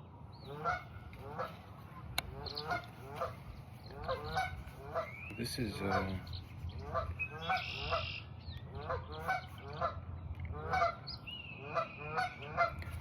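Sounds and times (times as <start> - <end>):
geese honking: 0.4 - 13.0.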